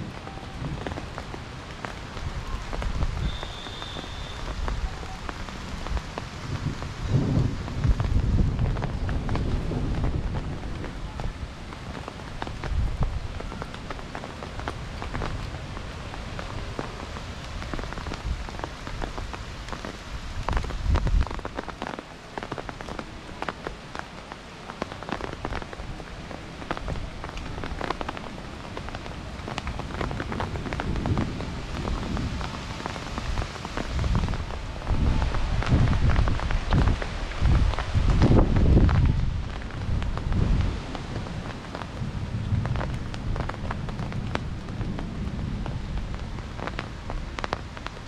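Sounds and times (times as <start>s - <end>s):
raindrop hits: 0.0s - 48.0s
steady rain falling: 0.0s - 48.0s
wind gusts on microphone: 0.0s - 48.0s.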